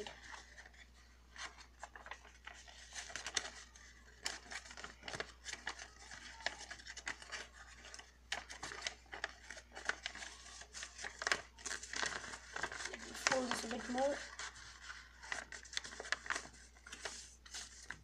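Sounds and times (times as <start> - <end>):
paper crackles: 0.0 - 18.0
paper rustling and crinkling: 0.0 - 18.0.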